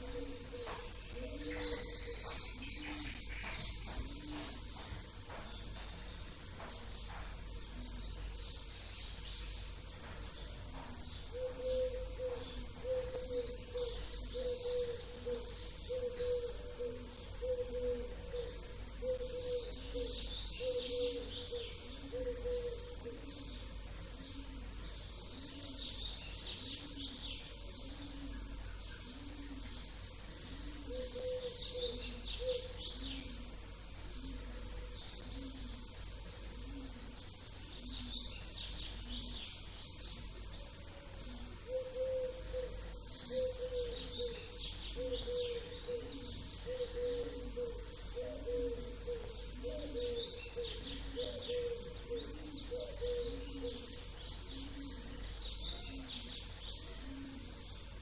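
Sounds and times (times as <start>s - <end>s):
small birds chirping: 0.0s - 58.0s
low bird call: 10.4s - 58.0s.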